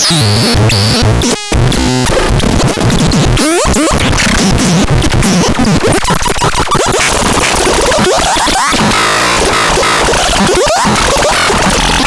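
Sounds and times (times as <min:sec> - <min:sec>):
harsh electronic noise with pitch sweeps: 0:00.0 - 0:12.0.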